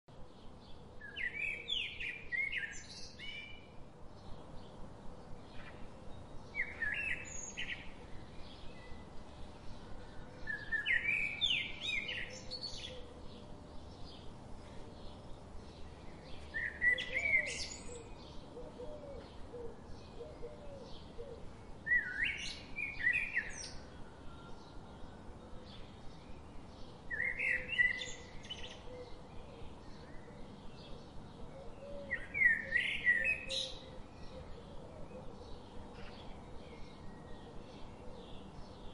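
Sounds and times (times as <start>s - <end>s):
faint bird chirping: 0.1s - 38.9s.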